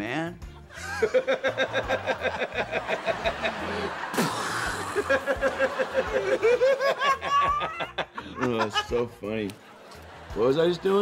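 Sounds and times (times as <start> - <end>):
men laughing: 0.6 - 11.0.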